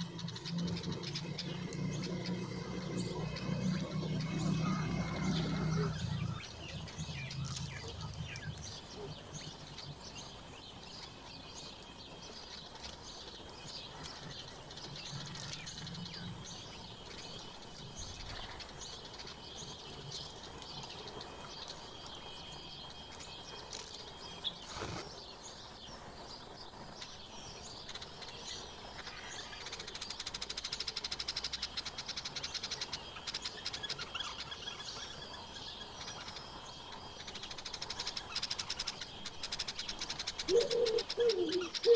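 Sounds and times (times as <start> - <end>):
songbirds chirping: 0.0 - 41.9.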